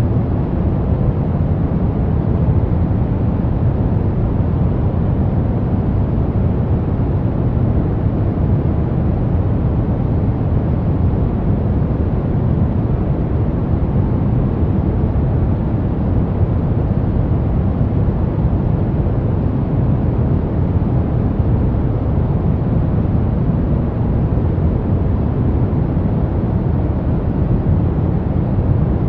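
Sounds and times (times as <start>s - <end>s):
brown noise rumbling hiss: 0.0s - 29.0s.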